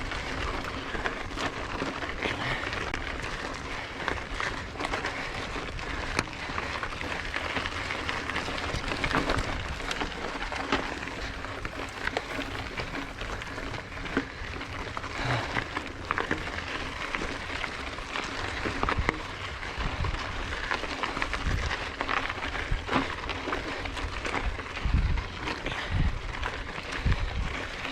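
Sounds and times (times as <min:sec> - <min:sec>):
bike clicks and rattles: 0:00.0 - 0:27.9
bike tyres rushing on dirt: 0:00.0 - 0:27.9.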